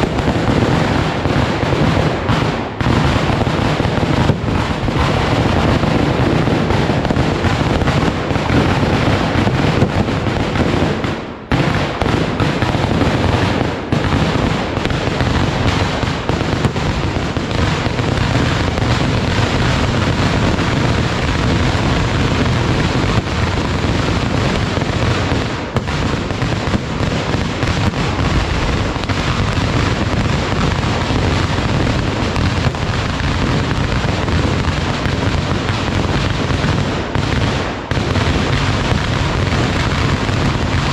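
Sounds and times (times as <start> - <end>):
firecracker blasts: 0.0 - 40.9.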